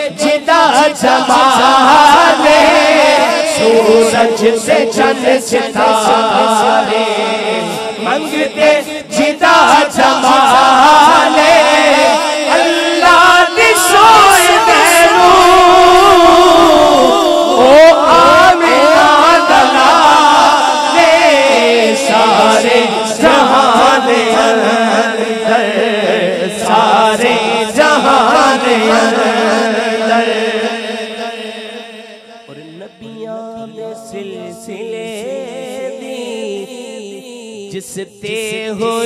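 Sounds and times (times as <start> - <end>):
man singing: 0.0 - 39.0.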